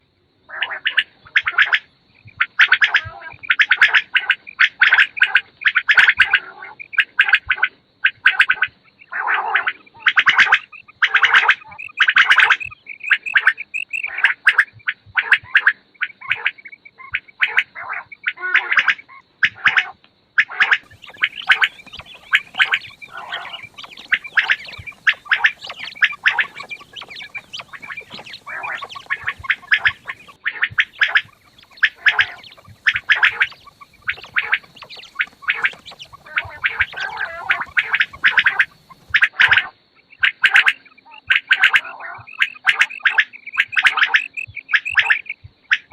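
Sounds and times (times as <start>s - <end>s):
quail calling: 0.5s - 45.9s.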